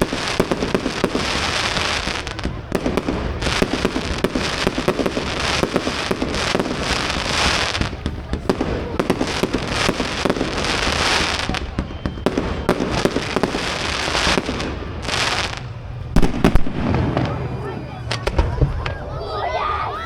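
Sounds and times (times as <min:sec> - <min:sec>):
fireworks bangs and pops: 0:00.0 - 0:19.1
fireworks crackling: 0:00.0 - 0:19.7.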